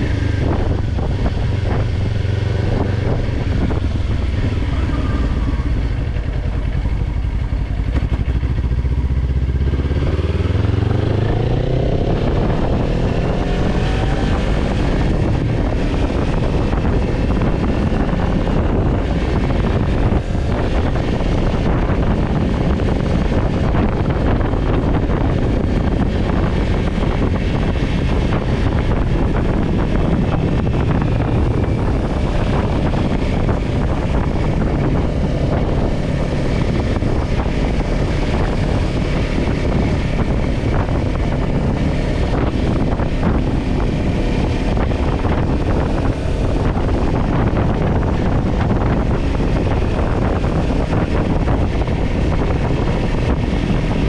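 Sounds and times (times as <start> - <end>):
motorcycle engine cruising: 0.0 - 54.0
wind buffeting microphone: 0.0 - 54.0.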